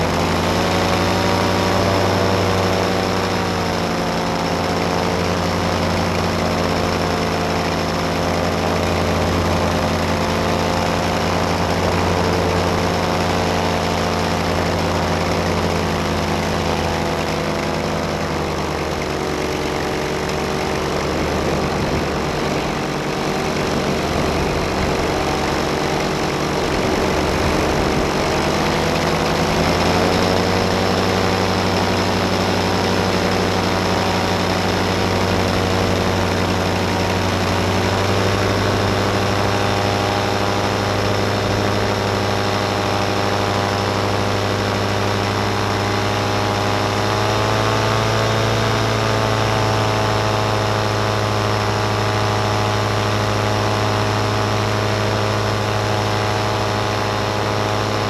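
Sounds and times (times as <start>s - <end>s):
paraglider engine and propeller drone: 0.0s - 58.0s.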